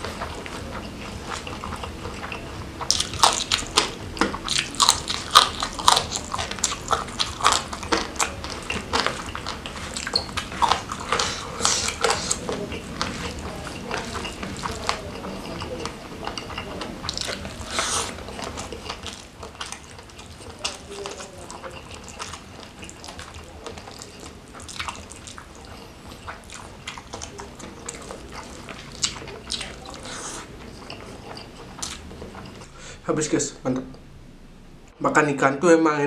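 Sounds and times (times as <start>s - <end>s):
chewing with crisp crunches: 0.0s - 33.0s.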